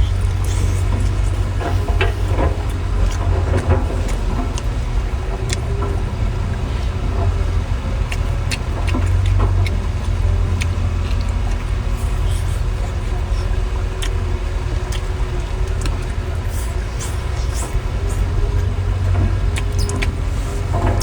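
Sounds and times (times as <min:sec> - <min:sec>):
eating noises: 0:00.0 - 0:21.0
steady low rumble: 0:00.0 - 0:21.0.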